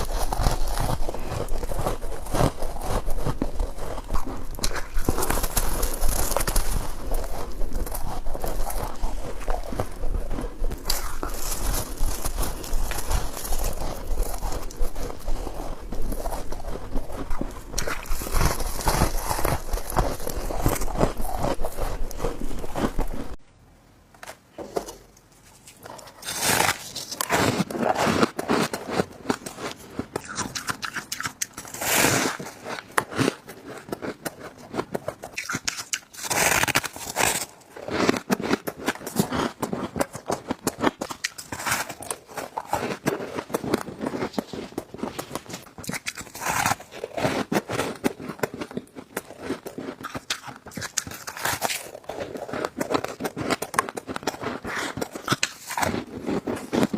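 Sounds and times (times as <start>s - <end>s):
chewing crunchy ice: 0.0s - 23.4s, 25.8s - 56.9s.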